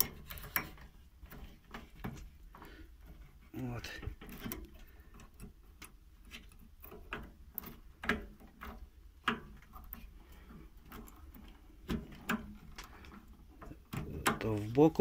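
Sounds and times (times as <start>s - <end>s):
small clicks and taps: 0.0s - 15.0s.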